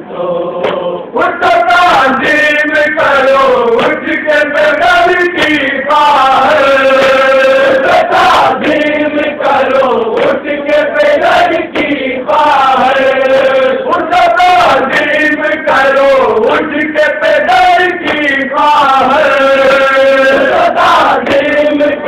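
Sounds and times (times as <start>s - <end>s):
men chanting a lament: 0.0s - 22.0s.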